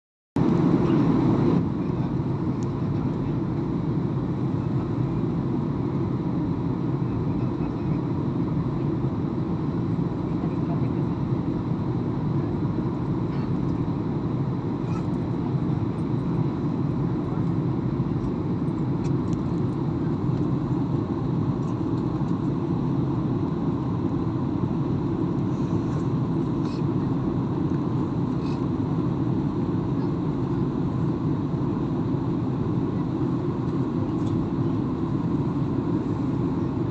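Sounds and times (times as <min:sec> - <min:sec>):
airliner cabin engine rumble: 0:00.4 - 0:36.9.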